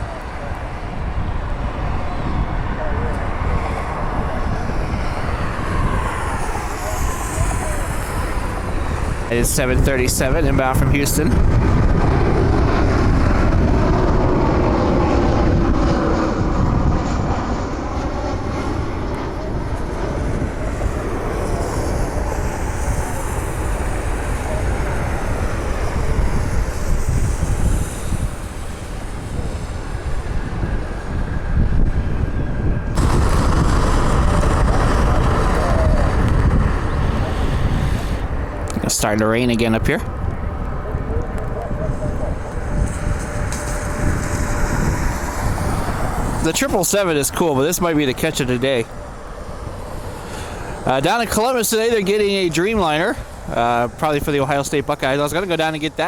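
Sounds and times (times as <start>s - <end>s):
jet airliner engines rumbling: 0.0s - 56.0s
steady low noise: 0.0s - 56.0s.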